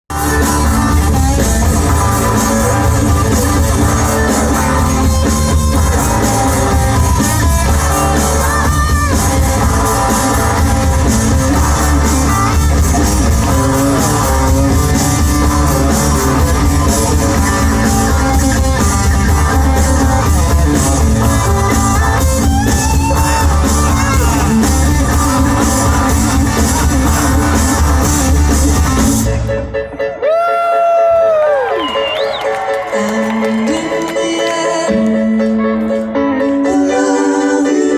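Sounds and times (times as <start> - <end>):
person singing: 0.1 - 28.7, 32.4 - 37.9
live rock band playing: 0.1 - 37.9.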